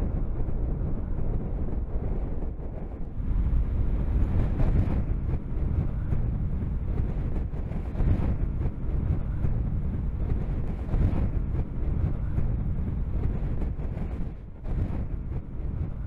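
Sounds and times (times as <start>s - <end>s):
rocket motor rumble with crackle: 0.0s - 16.0s
wind on microphone: 0.0s - 16.0s.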